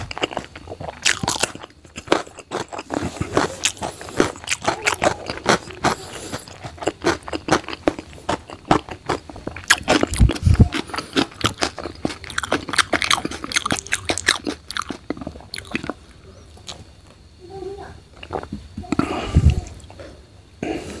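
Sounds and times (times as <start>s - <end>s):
chewing and mouth smacking: 0.0s - 16.9s, 18.2s - 20.0s.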